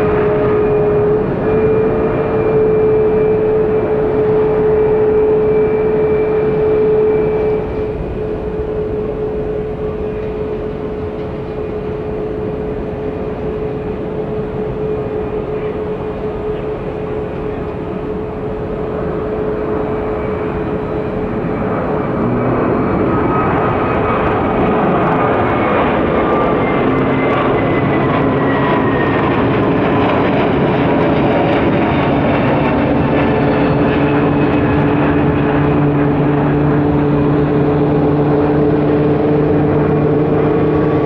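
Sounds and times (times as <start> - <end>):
jet engine roar with whine: 0.0 - 41.0
jet plane taking off rumble: 0.0 - 41.0.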